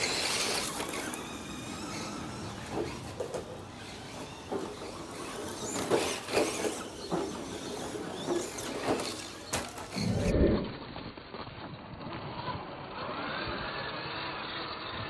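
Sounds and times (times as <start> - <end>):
tyres scrabbling on dirt: 0.0 - 12.2
electric motors and gears whirring: 0.0 - 15.0.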